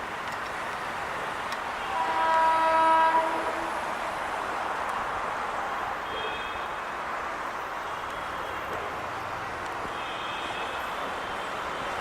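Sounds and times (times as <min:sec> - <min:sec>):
train wheels rushing on rail: 0:00.0 - 0:12.0.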